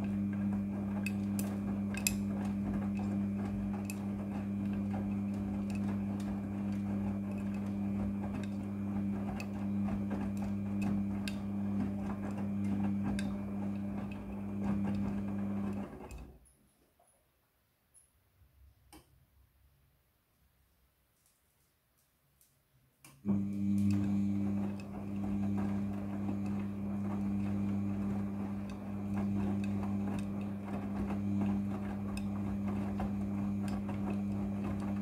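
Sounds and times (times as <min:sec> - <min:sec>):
washing machine drum turning: 0:00.0 - 0:16.3, 0:23.3 - 0:35.0.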